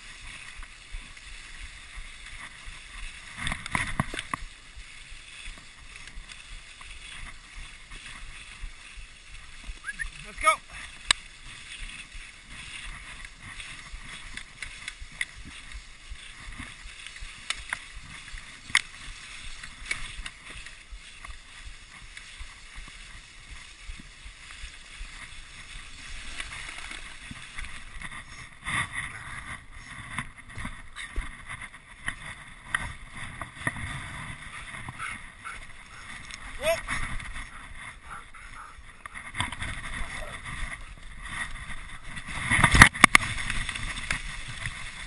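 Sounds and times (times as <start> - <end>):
sled clicks and knocks: 0.0 - 45.0
sled runners scraping snow: 0.0 - 45.0.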